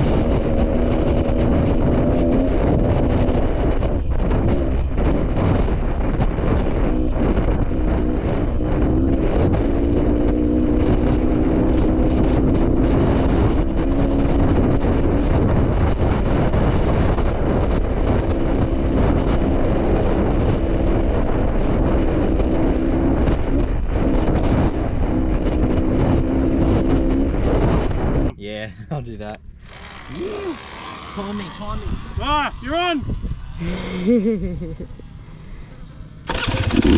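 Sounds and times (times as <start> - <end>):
dirt bike engine revving: 0.0 - 28.2, 29.5 - 36.9
wind noise on microphone: 0.0 - 28.4, 29.4 - 36.9.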